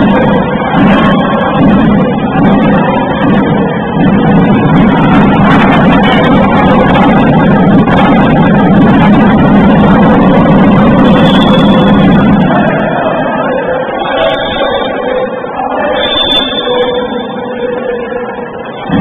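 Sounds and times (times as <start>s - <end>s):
crowd din in a hall: 0.0s - 19.0s.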